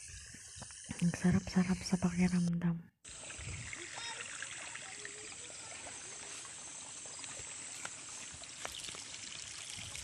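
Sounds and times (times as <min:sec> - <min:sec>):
outdoor ambience hiss: 0:00.0 - 0:10.0.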